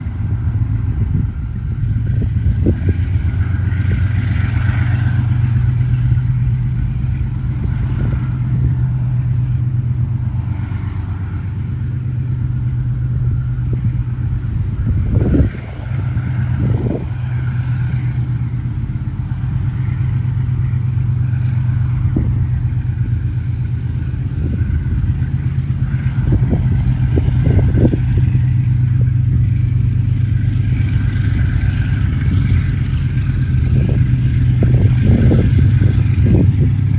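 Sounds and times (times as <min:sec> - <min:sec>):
diesel locomotive engines droning: 0:00.0 - 0:36.9.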